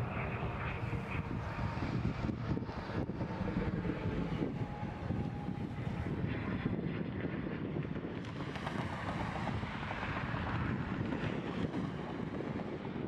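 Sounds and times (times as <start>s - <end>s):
jet engines running: 0.0s - 13.0s
wind buffeting microphone: 0.0s - 13.0s.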